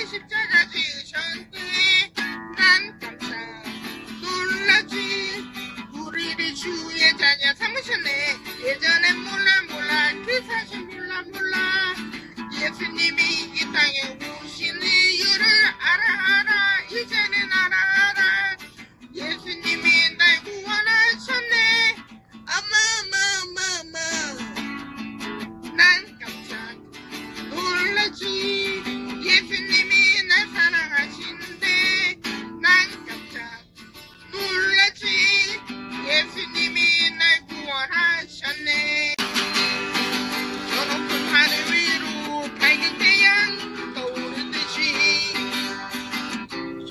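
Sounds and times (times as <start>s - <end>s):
woman singing: 0.0s - 24.5s, 25.6s - 39.2s, 40.6s - 46.1s
acoustic guitar backing: 0.0s - 46.9s.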